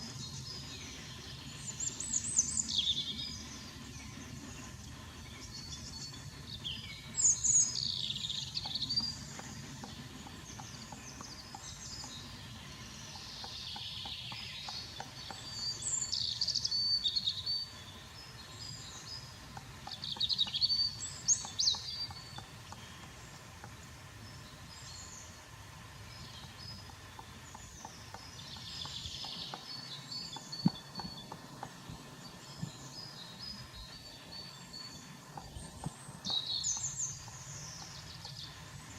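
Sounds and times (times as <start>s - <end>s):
low steady background rumble: 0.0s - 38.9s
songbirds trilling: 0.0s - 38.9s.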